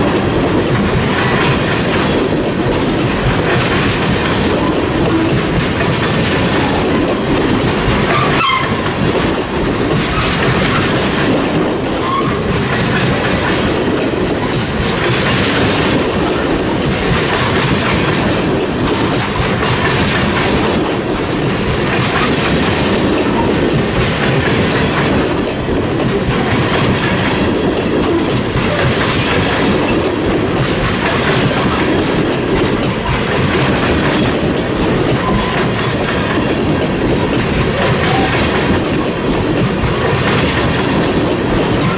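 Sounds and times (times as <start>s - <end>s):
train wheels clacking over rail joints: 0.0s - 41.9s.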